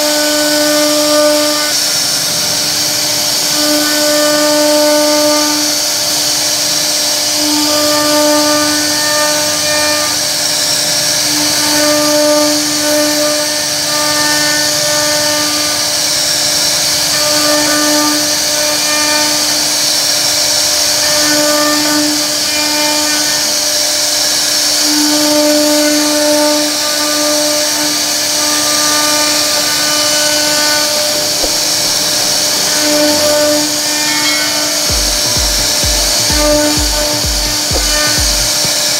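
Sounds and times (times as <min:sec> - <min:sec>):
router spindle whine: 0:00.0 - 0:38.9
wood cutting hiss: 0:00.0 - 0:38.9.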